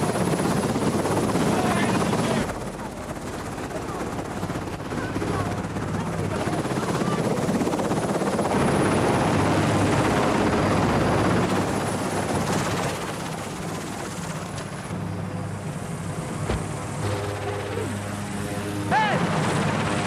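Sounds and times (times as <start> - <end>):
helicopter rotor and turbine: 0.0 - 20.0.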